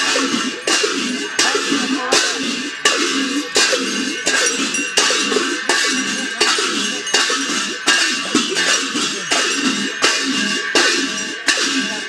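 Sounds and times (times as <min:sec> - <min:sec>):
ringing percussion strokes: 0:00.0 - 0:12.0
voices chanting: 0:00.0 - 0:12.0.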